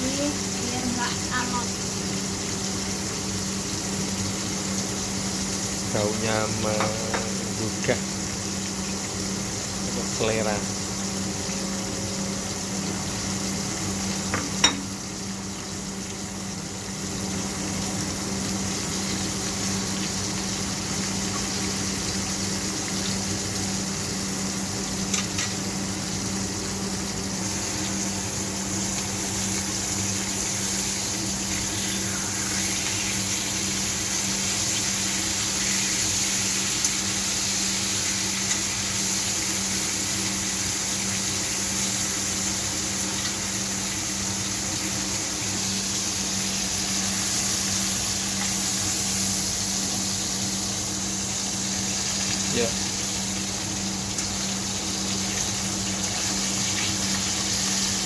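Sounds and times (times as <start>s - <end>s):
steak sizzling in a pan: 0.0s - 58.0s.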